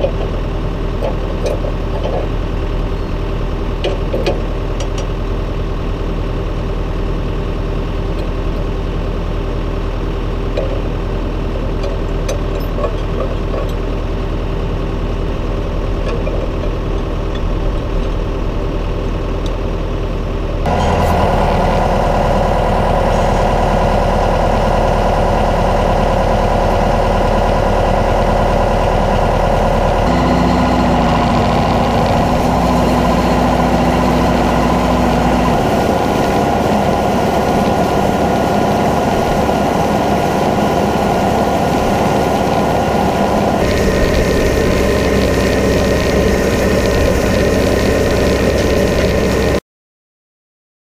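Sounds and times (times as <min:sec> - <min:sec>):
tractor diesel engine running: 0:00.0 - 0:49.6.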